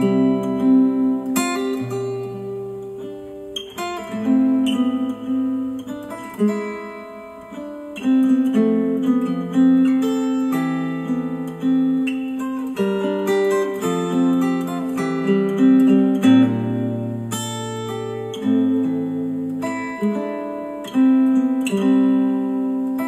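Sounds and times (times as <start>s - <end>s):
acoustic guitar instrumental: 0.0s - 23.0s.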